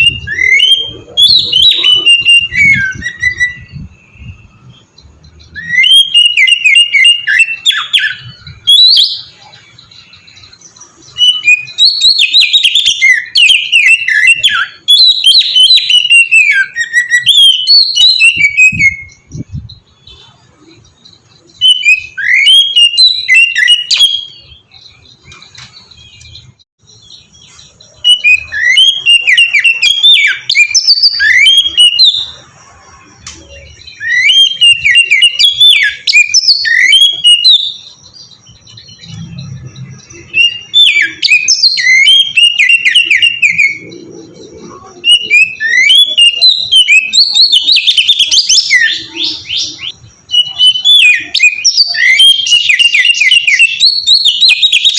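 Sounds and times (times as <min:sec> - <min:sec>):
bird singing whistled phrases: 0:00.0 - 0:54.9.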